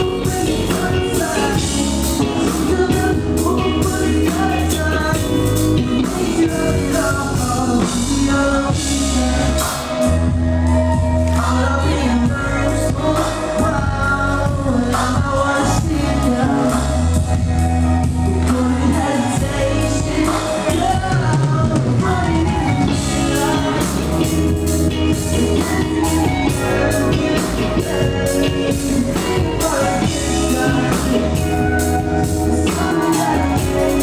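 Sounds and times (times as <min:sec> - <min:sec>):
bass guitar: 0:00.0 - 0:34.0
drum kit: 0:00.0 - 0:34.0
electric guitar: 0:00.0 - 0:34.0
person singing lead vocal: 0:00.0 - 0:34.0.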